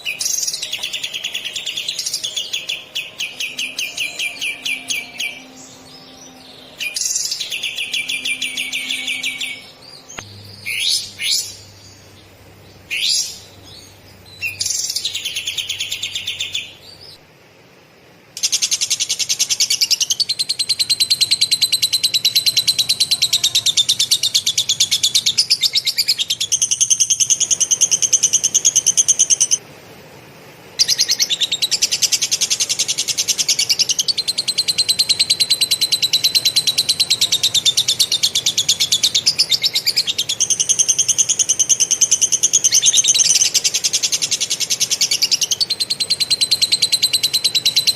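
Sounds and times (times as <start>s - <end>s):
songbird trilling: 0.0s - 17.2s, 18.4s - 29.6s, 30.8s - 47.9s.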